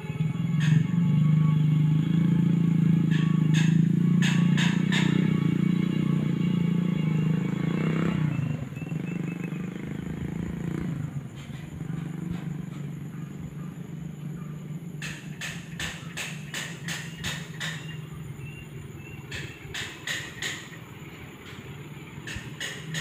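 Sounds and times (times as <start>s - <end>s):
low engine hum: 0.0s - 23.0s
vehicle passing by: 0.0s - 23.0s.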